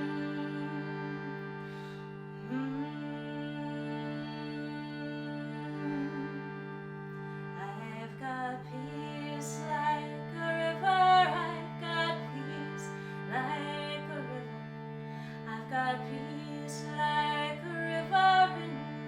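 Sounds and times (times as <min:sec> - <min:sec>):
woman singing: 0:00.0 - 0:01.4, 0:02.5 - 0:06.5, 0:07.6 - 0:14.6, 0:15.4 - 0:19.0
harmonium playing chords: 0:00.0 - 0:19.0.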